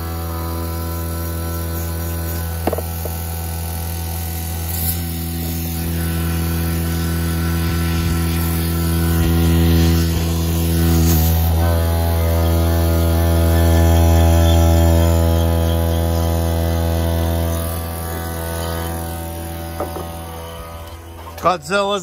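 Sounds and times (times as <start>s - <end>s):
vacuum pump motor hum: 0.0s - 21.4s.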